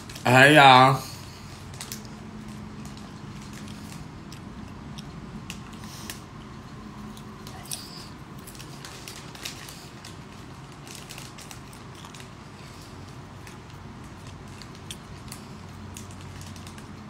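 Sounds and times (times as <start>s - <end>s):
popcorn chewing crunches: 0.0s - 0.3s, 1.0s - 17.0s
low steady hum: 0.0s - 17.0s.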